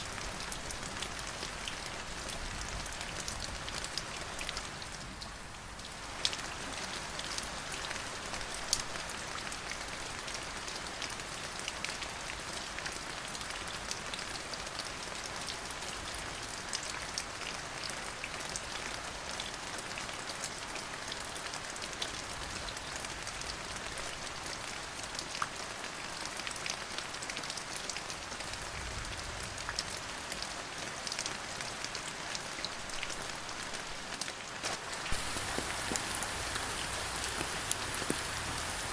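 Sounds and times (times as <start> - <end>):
rain falling: 0.0 - 38.9
raindrops ticking on a surface: 0.0 - 38.9.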